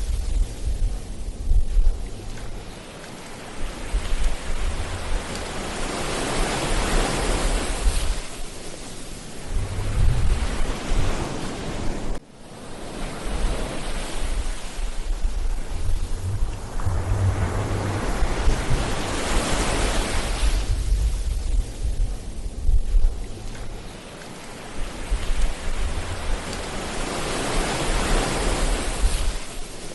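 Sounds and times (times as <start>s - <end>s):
wind buffeting microphone: 0.0s - 2.9s, 3.5s - 8.5s, 9.2s - 12.2s, 13.2s - 29.9s
ocean surf breaking: 2.6s - 21.2s, 23.8s - 29.9s.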